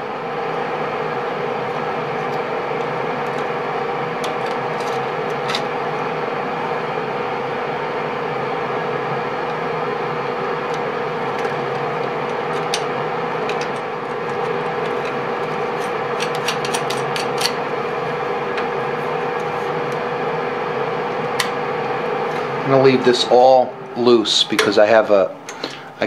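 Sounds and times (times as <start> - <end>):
fan motor humming: 0.0 - 26.0.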